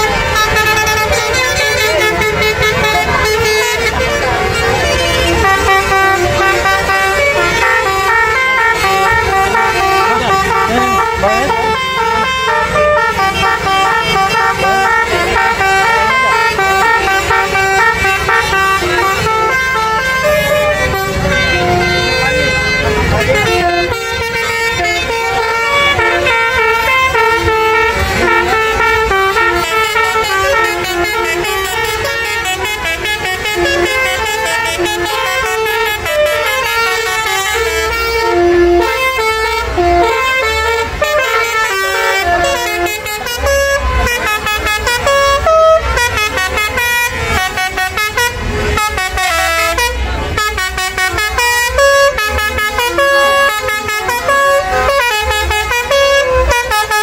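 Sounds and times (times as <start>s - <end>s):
melodic bus air horns: 0.0s - 57.0s.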